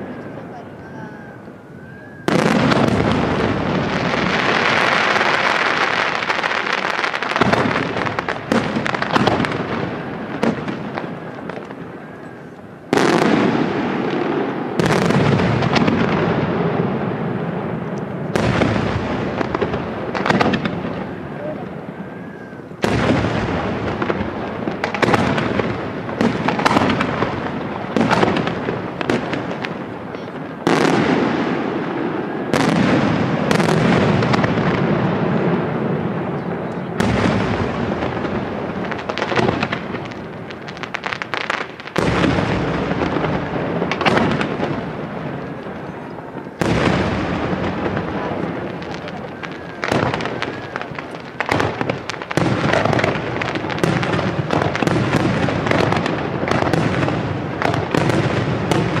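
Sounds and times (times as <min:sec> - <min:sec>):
firework shells bursting: 0:02.2 - 0:59.0.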